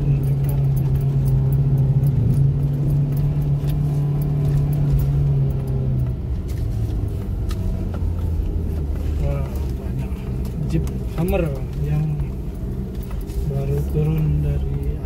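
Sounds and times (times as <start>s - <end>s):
car engine droning: 0.0s - 15.0s
light clicking rattles: 0.0s - 15.0s.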